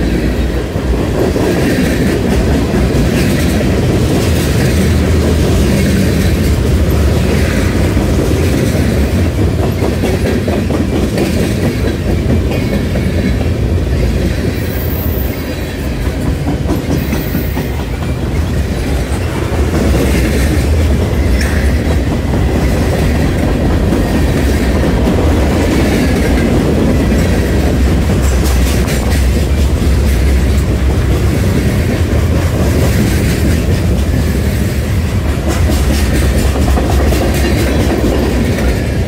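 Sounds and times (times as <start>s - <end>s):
freight train rumble: 0.0s - 39.0s
wheels clicking over rail joints: 0.2s - 39.0s.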